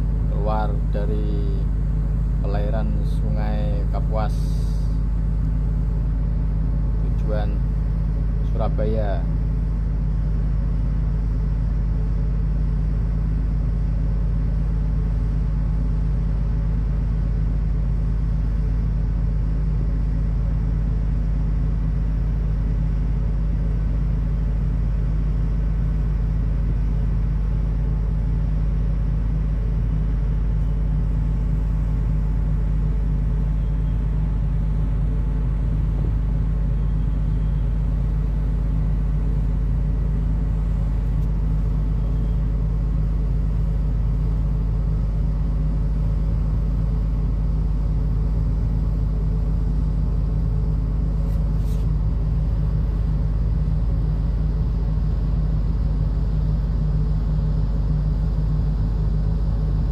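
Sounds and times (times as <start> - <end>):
ship's engine drone: 0.0 - 59.9.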